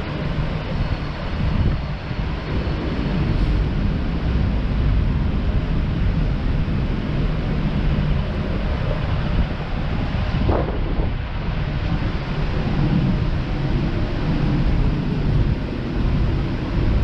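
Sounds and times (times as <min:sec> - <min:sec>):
outdoor ambience: 0:00.0 - 0:17.0
wind buffeting microphone: 0:00.0 - 0:17.0.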